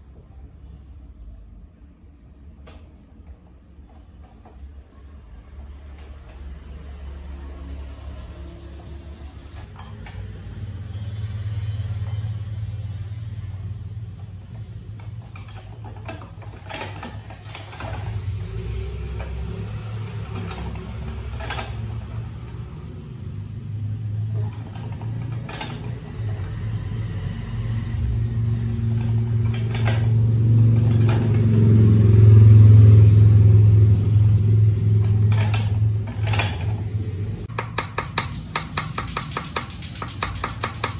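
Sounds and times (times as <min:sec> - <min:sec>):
rolling mill gears clicking: 0:02.1 - 0:40.9.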